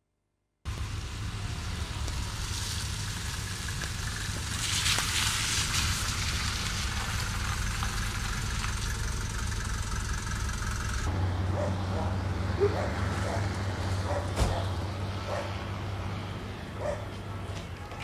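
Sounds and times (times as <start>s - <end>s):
road hiss: 0.7s - 17.5s
car engine rumble: 0.7s - 18.0s.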